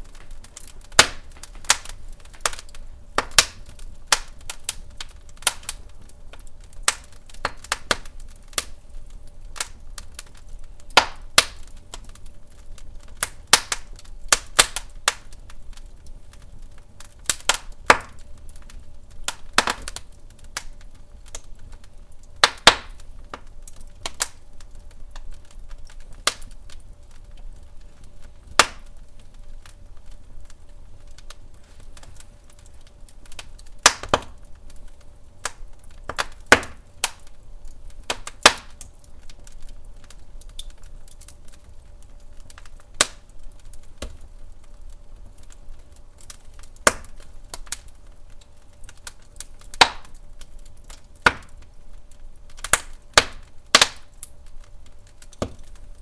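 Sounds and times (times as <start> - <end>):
logs crackling and popping: 0.0 - 56.0
low rumble of flames: 0.0 - 56.0.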